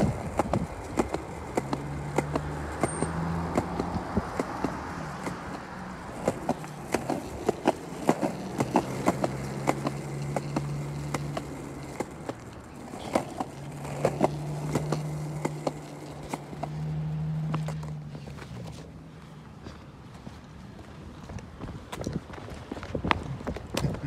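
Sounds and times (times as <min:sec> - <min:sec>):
skateboard wheels rolling on pavement: 0:00.0 - 0:24.0.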